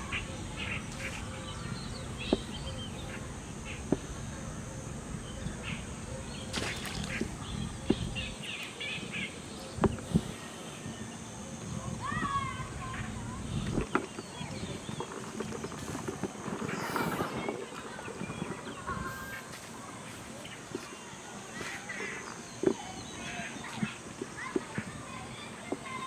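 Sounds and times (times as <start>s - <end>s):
outdoor background noise: 0.0s - 26.0s
small birds chirping: 0.0s - 26.0s.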